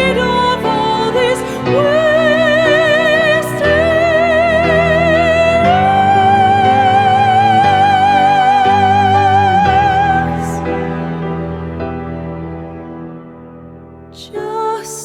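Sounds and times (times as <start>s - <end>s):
sustained chords: 0.0s - 14.5s.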